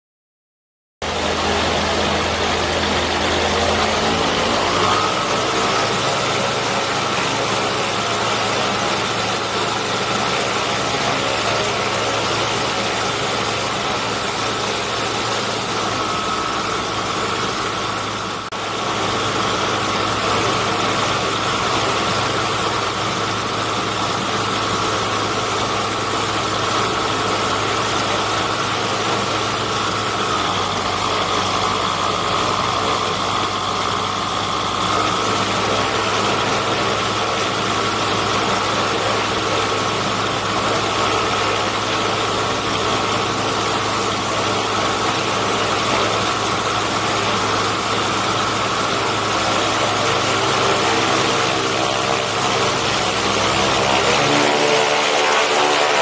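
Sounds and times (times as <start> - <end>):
aircraft engine and propeller: 1.0 - 56.0.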